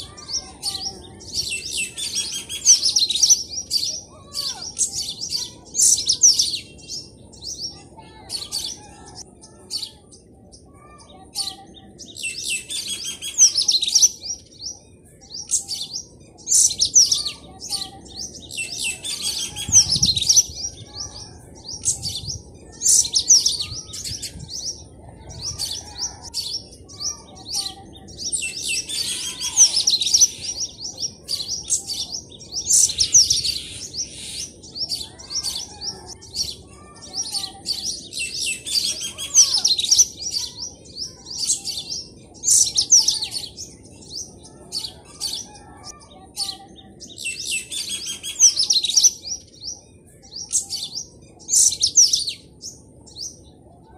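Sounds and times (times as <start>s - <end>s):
birds twittering: 0.0s - 53.9s.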